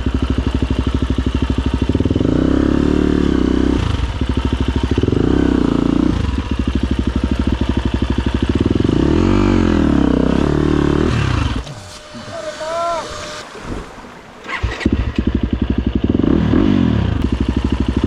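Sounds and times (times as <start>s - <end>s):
motorcycle engine revving: 0.0s - 12.4s, 14.4s - 18.0s.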